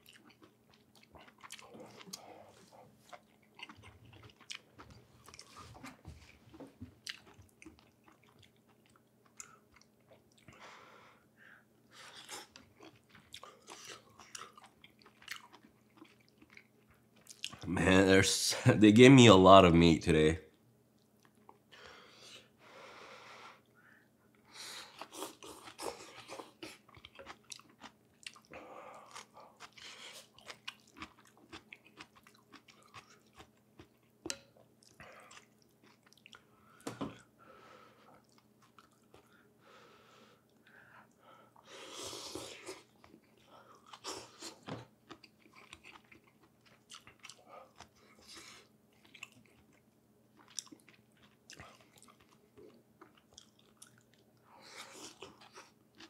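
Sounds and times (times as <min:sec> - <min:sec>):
close-up chewing: 0:00.0 - 0:10.6, 0:11.8 - 0:17.7, 0:24.4 - 0:37.3, 0:38.0 - 0:39.5, 0:40.4 - 0:56.0.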